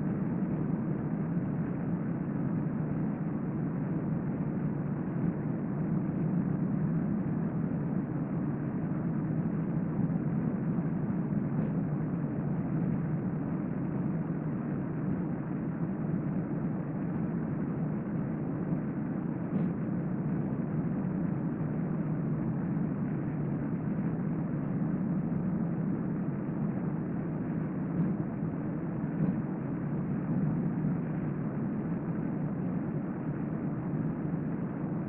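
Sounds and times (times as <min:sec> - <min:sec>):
low rumbling background noise: 0:00.0 - 0:35.0.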